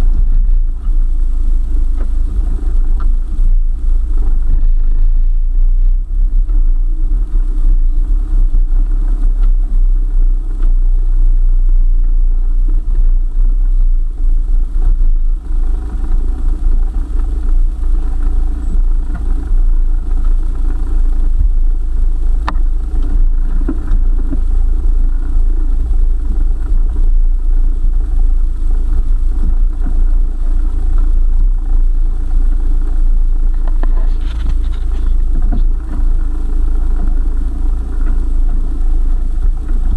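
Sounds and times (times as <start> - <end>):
heavy low rumble: 0.0 - 39.9
vehicle engine running: 0.0 - 39.9.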